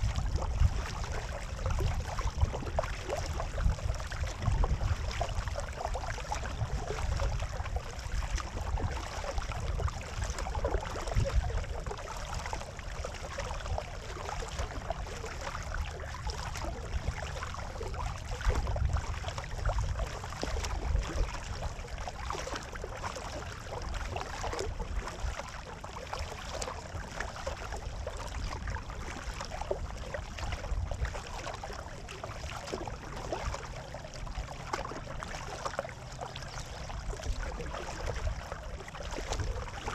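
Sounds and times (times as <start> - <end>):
low uneven rumble: 0.0 - 39.9
water rushing along kayak hull: 0.0 - 39.9.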